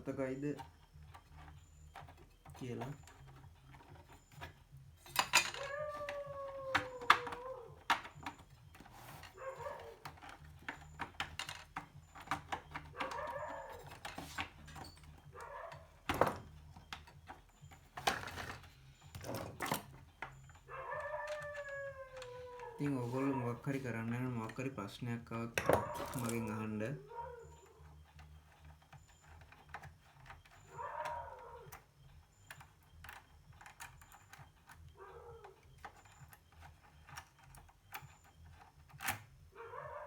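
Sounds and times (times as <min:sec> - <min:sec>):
drawn-out animal cries: 0:00.1 - 0:38.5, 0:39.4 - 0:40.0.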